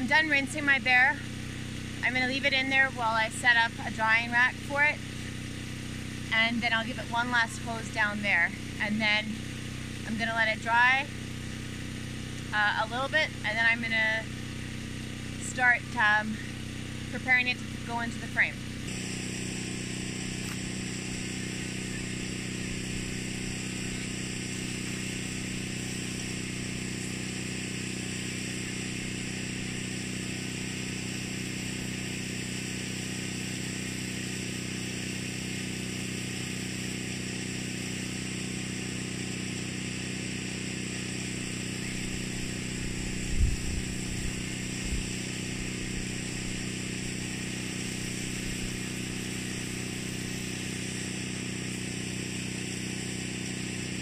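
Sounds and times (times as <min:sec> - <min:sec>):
small engine humming: 0:00.0 - 0:54.0.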